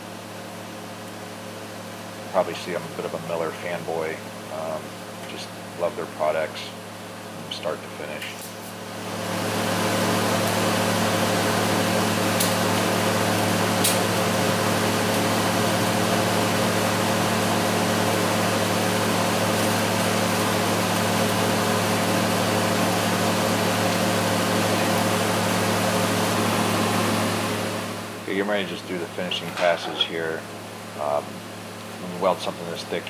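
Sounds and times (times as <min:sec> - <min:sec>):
welding arc humming and hissing: 0:00.0 - 0:33.0.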